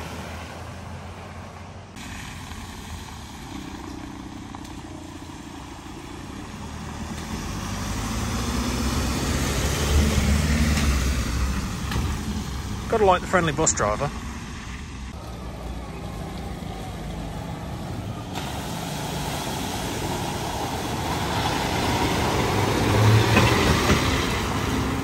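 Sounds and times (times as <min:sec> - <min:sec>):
minibus engine running: 0:00.0 - 0:25.0
water rushing around wheels: 0:00.0 - 0:25.0.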